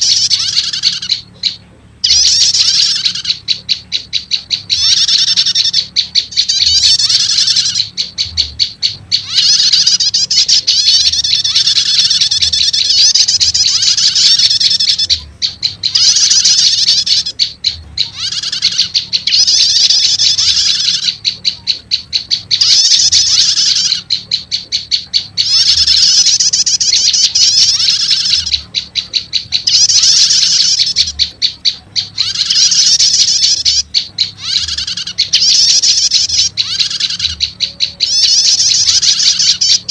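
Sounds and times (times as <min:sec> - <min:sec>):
songbird chattering calls: 0:00.0 - 0:39.9.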